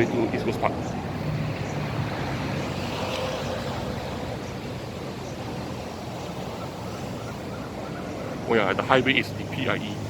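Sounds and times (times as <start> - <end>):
expressway traffic rushing: 0.0 - 10.0.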